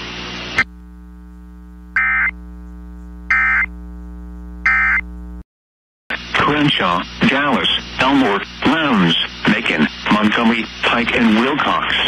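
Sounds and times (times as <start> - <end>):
radio static hiss: 0.0 - 5.4, 6.1 - 12.0
steady low hum: 0.0 - 5.4, 6.1 - 12.0.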